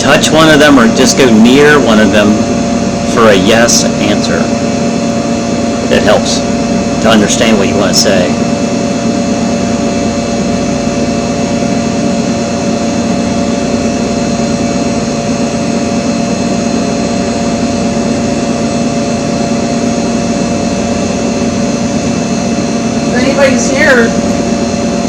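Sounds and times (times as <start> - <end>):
mechanical hum and hiss: 0.0 - 25.0.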